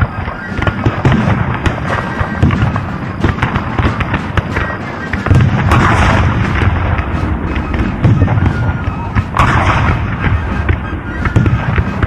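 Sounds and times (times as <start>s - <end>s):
background music: 0.0s - 12.0s
gunfire and booms: 0.0s - 12.0s
loud blast: 0.0s - 12.0s.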